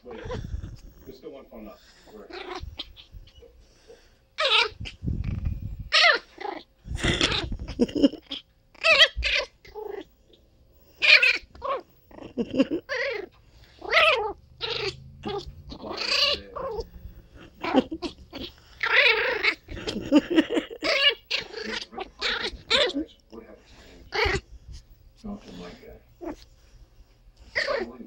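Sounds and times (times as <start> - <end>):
puppy whining: 0.0 - 1.1, 2.0 - 23.1, 23.7 - 24.5, 25.6 - 26.6, 27.4 - 28.0.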